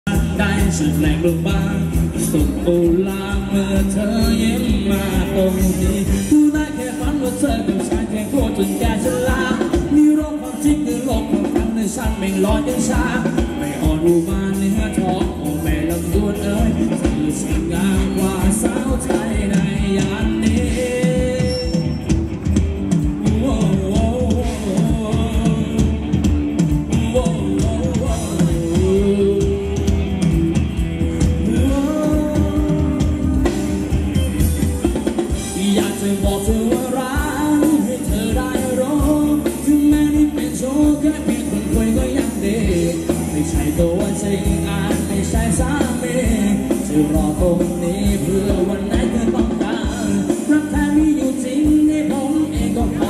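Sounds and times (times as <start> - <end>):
live band playing dance music: 0.0 - 53.0.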